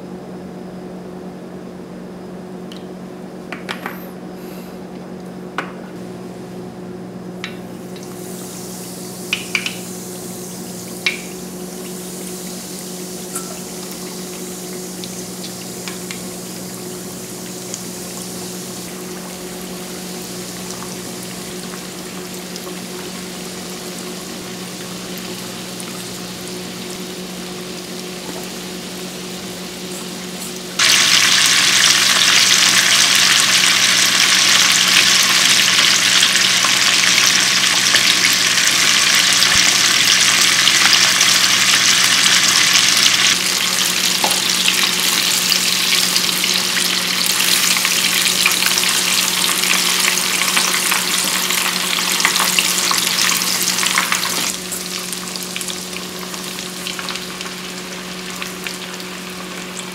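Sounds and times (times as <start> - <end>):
chicken deep-frying in oil: 7.4 - 59.9.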